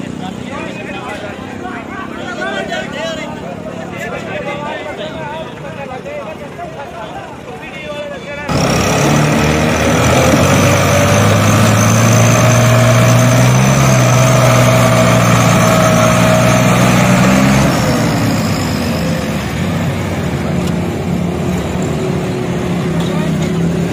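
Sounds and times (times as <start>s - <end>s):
tractor diesel engine droning: 0.0s - 23.9s.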